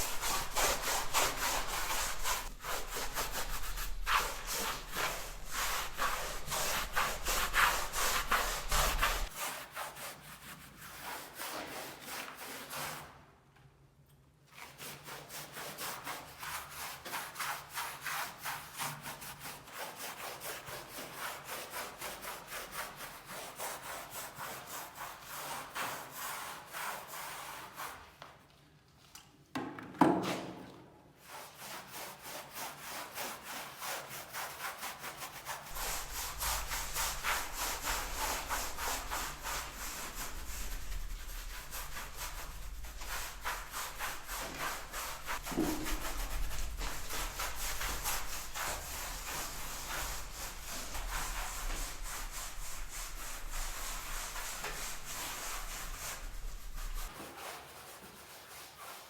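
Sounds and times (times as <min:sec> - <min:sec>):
brush scrubbing over rough plaster: 0:00.0 - 0:13.1, 0:14.5 - 0:28.1, 0:31.2 - 0:59.0.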